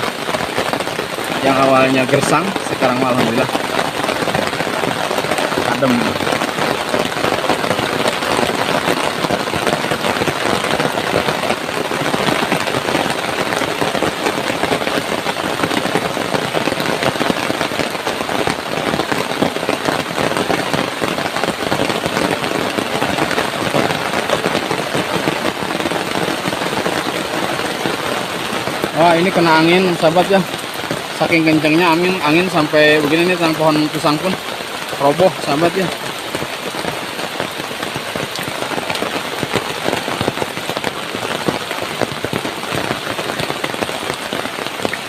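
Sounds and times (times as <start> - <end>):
heavy rain on ground and foliage: 0.0 - 45.0.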